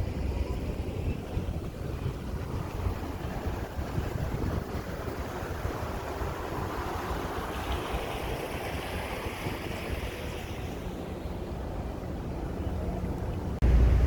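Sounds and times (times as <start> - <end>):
sea wash: 0.0 - 14.0
wind buffeting microphone: 0.0 - 14.0.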